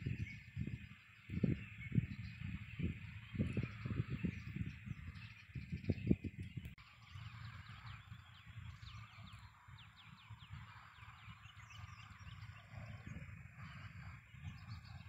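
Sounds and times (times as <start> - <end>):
birds chirping faintly: 0.0 - 15.0
low uneven rumble: 0.2 - 15.0.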